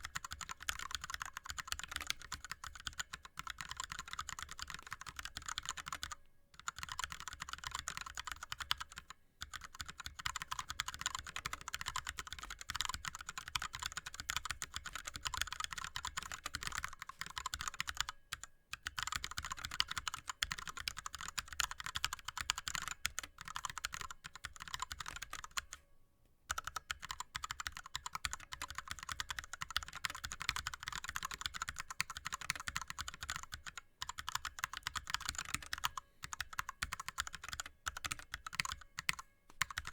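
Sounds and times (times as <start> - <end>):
fast typing on mechanical keyboard: 0.0 - 25.7, 26.5 - 39.9.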